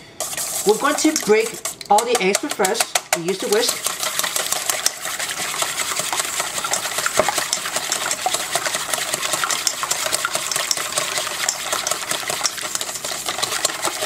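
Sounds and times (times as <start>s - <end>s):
whisk clicking against bowl: 0.2s - 14.0s.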